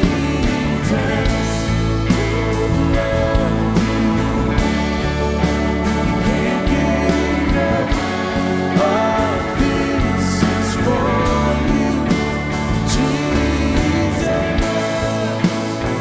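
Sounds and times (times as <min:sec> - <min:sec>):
live band with guitar and drums: 0:00.0 - 0:16.0.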